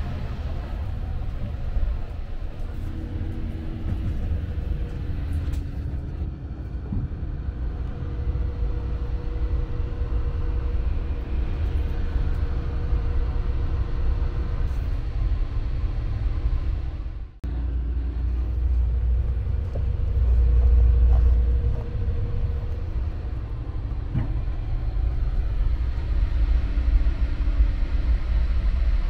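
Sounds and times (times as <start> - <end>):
train car rumble and hum: 0.0 - 29.0.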